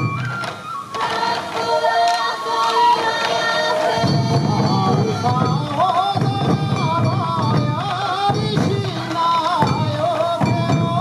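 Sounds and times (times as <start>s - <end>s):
taiko drums beaten together: 0.0s - 11.0s
wavering bamboo flute melody: 0.0s - 11.0s.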